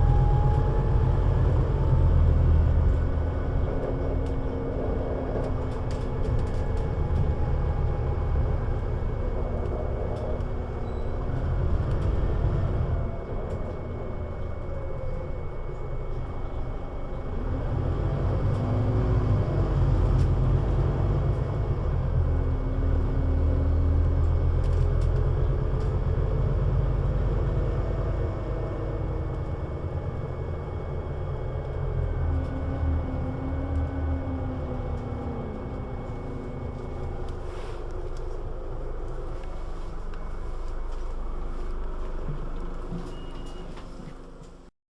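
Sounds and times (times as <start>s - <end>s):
bus engine rumble: 0.0s - 44.7s.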